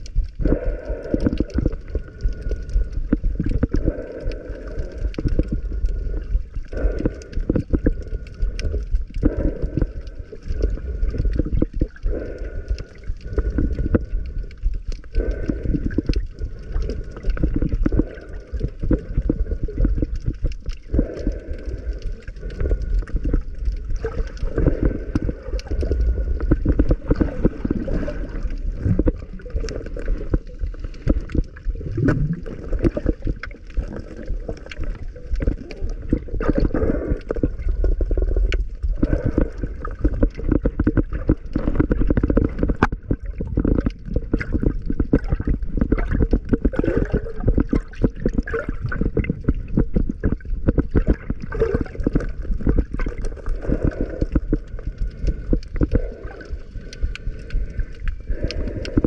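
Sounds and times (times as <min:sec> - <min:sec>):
dense crackling: 0:00.0 - 0:59.0
muffled underwater churning: 0:00.0 - 0:59.0.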